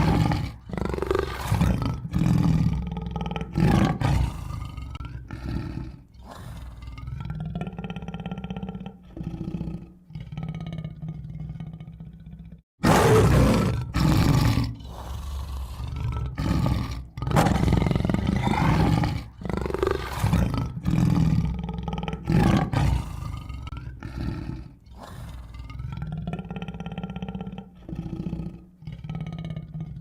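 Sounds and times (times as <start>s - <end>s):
tiger roaring: 0.0s - 30.0s.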